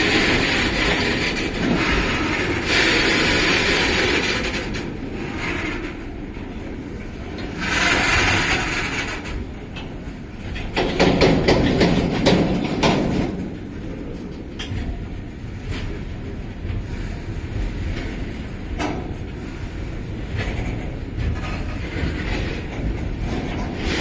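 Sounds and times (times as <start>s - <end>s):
train rumble: 0.0s - 24.0s
train wheels clacking on rail joints: 0.0s - 24.0s.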